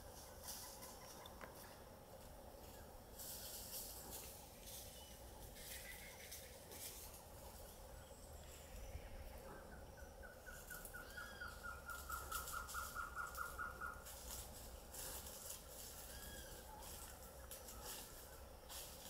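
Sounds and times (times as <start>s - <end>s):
forest ambience: 0.0s - 19.0s.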